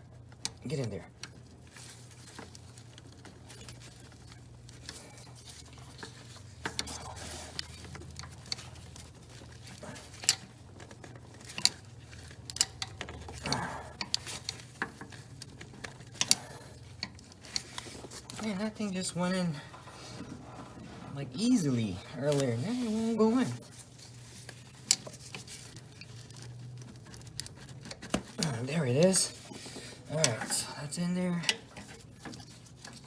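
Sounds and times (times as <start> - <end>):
clicks taps and scrapes of metal parts: 0.0 - 21.2, 21.8 - 33.0
low steady hum: 0.0 - 33.0.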